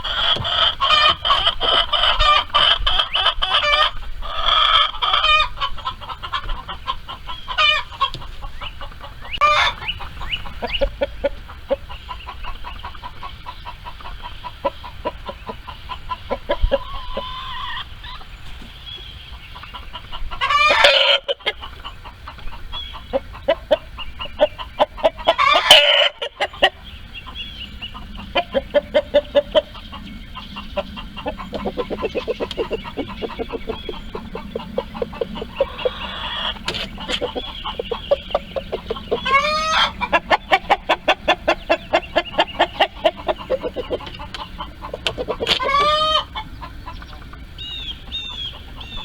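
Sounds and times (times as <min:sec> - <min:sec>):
chickens clucking: 0:00.0 - 0:49.0
loud long chicken calls: 0:00.0 - 0:49.0.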